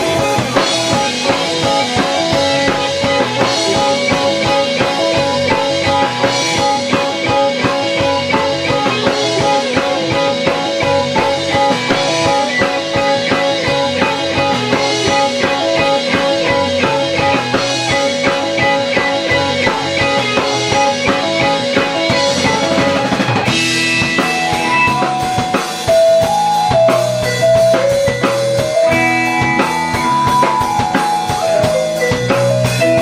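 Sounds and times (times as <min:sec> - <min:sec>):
drum kit steady beat: 0:00.0 - 0:33.0
melodic line over band: 0:00.0 - 0:33.0
rock band playing: 0:00.0 - 0:33.0.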